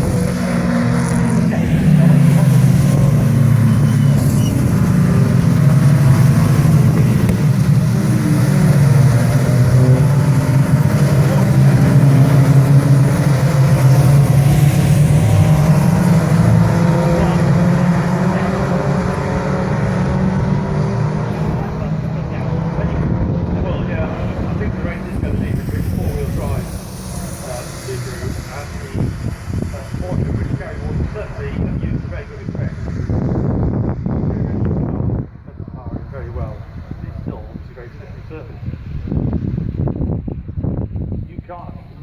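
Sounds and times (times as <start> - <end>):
steady low drone: 0.0 - 41.8
racing car engines running hard: 0.0 - 42.0.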